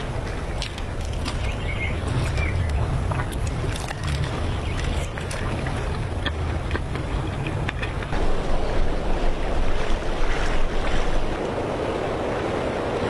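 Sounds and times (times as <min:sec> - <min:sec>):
rushing water: 0:00.0 - 0:13.0
wind buffeting microphone: 0:00.0 - 0:13.0.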